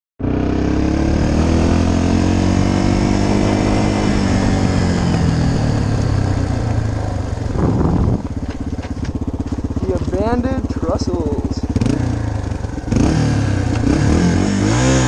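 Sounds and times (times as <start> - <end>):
dirt bike engine running: 0.2 - 15.0.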